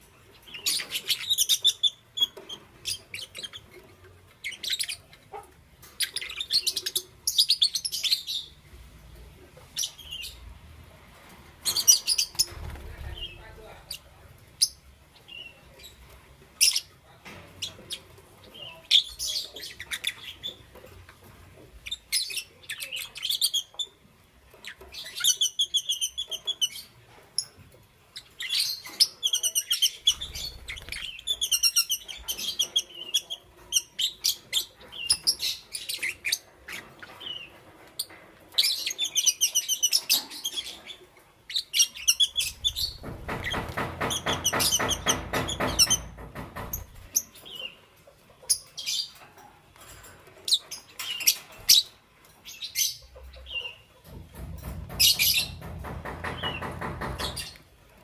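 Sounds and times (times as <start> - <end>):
lovebirds chirping: 0.0 - 10.7, 11.5 - 49.3, 50.3 - 54.0.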